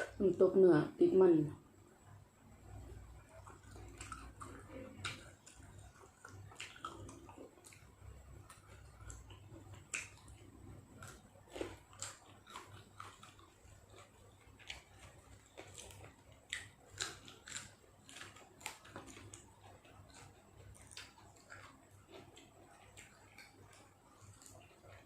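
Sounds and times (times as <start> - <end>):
person chewing food: 2.7 - 25.0.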